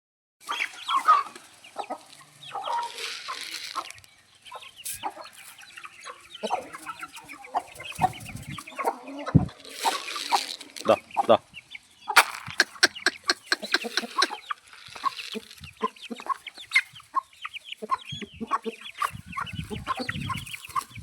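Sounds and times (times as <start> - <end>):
chickens clucking: 0.4 - 21.0.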